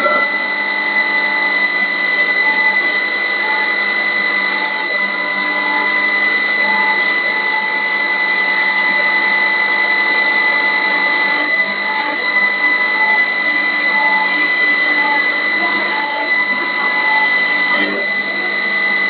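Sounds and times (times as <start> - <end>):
wood lathe running with whine: 0.0 - 19.0.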